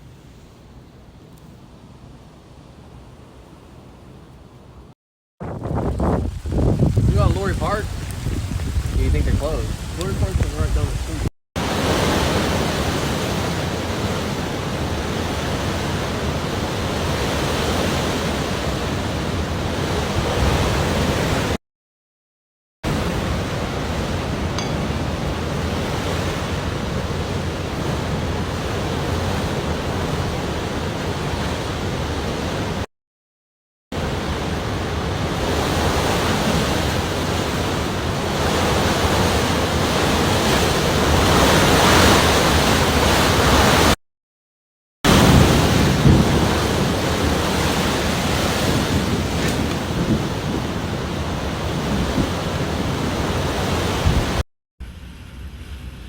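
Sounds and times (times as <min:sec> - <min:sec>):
storm wind and water rushing: 0:01.7 - 0:21.6, 0:22.8 - 0:32.9, 0:33.9 - 0:44.0, 0:45.1 - 0:56.0.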